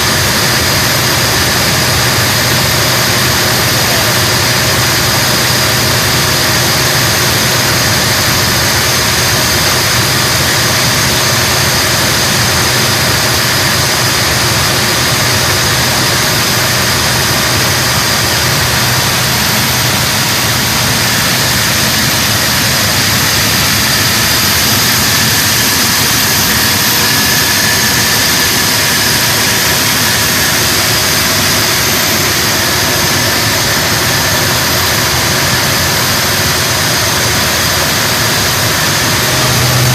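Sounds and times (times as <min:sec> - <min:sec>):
engine running with high whine: 0:00.0 - 0:39.9.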